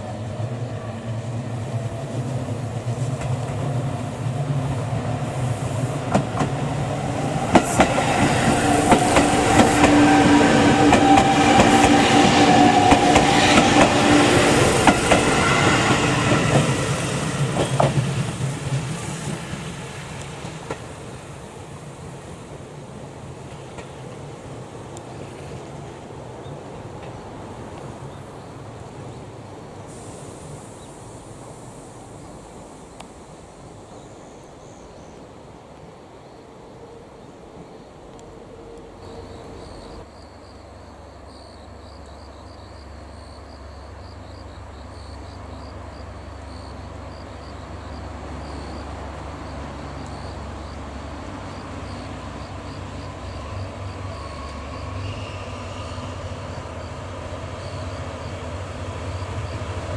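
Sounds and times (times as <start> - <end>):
diesel locomotive engine drone: 0.0 - 59.9
insects trilling: 0.2 - 59.9.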